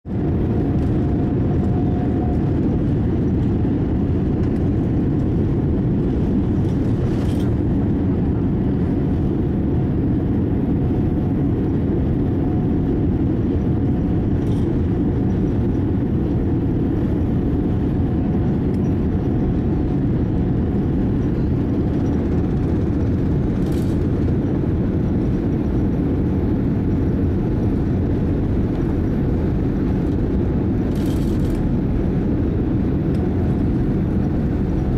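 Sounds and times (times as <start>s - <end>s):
jet engines and wheels rumbling: 0.0s - 34.9s.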